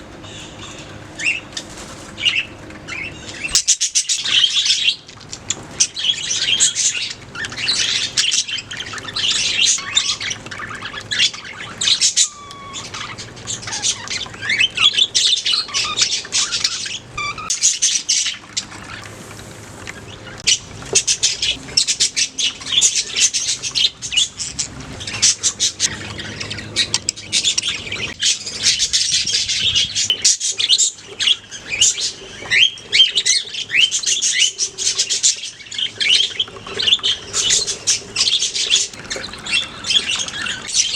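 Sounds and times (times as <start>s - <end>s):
budgies chirping: 0.0s - 19.3s, 19.9s - 40.9s.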